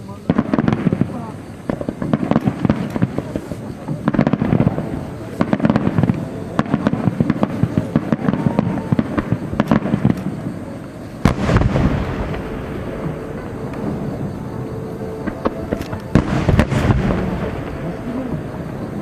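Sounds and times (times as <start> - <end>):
fireworks crackling bangs: 0.0 - 19.0
heavy firework boom: 0.2 - 14.5, 15.2 - 19.0.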